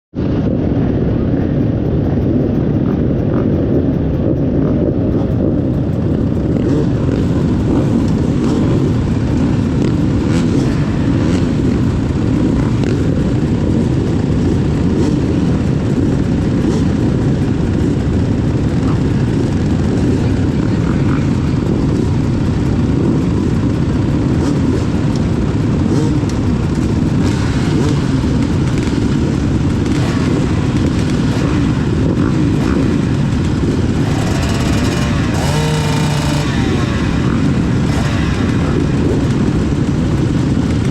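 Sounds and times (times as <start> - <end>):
motorcycle engines rumbling: 0.1 - 40.9
motorcycle revving up: 0.2 - 40.9.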